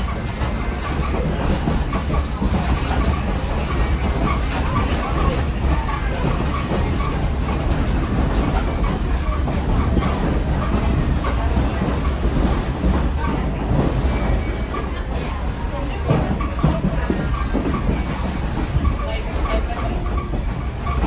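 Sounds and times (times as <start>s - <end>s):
train coach rumbling on track: 0.0s - 21.0s.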